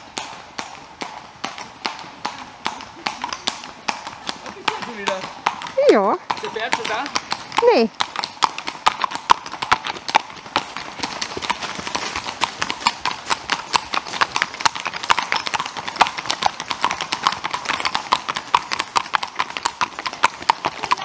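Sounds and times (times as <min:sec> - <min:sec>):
horse hooves on asphalt: 0:00.0 - 0:21.0.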